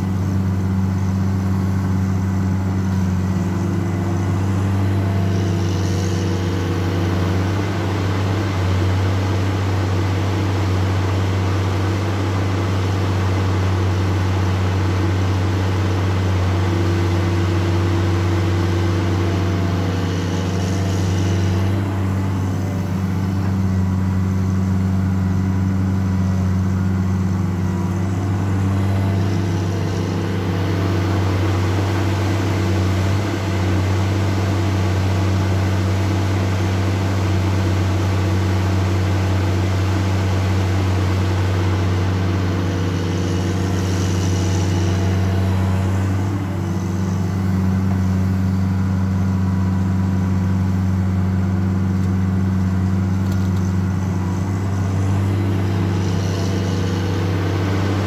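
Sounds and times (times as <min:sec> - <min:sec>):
excavator diesel engine drone: 0:00.0 - 0:58.0.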